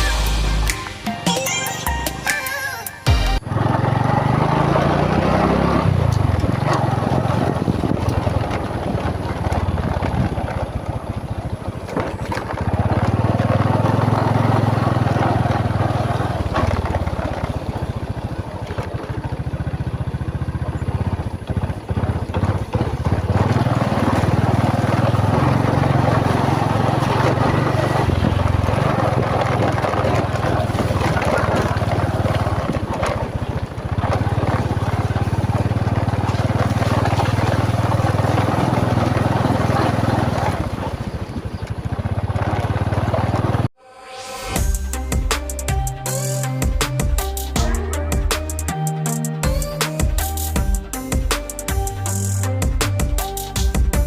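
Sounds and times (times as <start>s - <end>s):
motorbike engine humming: 0.0s - 54.0s
riding noise: 0.0s - 54.0s.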